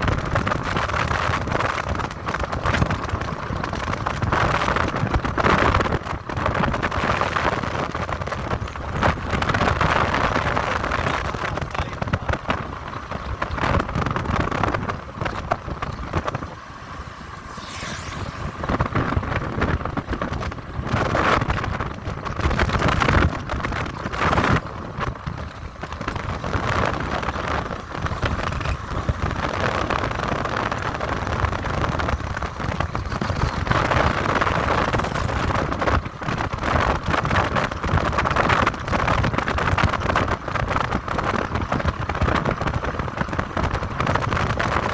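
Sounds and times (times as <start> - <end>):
vehicle road and engine noise: 0.0 - 44.9
wind buffeting microphone: 0.0 - 44.9.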